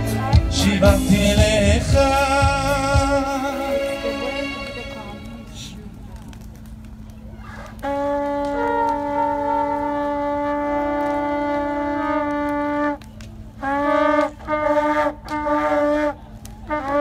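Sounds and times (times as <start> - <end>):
horn blasts: 0.0 - 5.9, 7.8 - 17.0.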